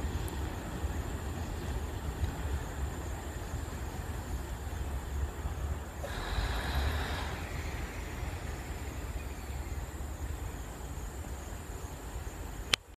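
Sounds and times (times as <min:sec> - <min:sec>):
diesel locomotives rumbling: 0:00.0 - 0:12.8.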